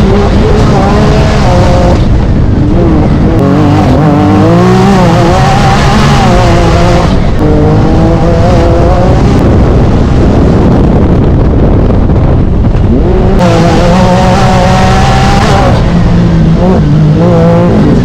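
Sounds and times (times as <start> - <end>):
engine running under load: 0.0 - 18.0.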